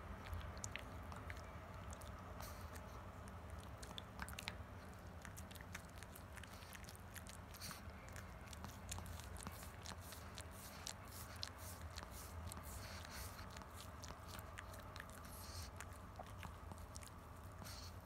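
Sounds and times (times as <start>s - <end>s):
dog gnawing a chew stick: 0.0s - 18.0s.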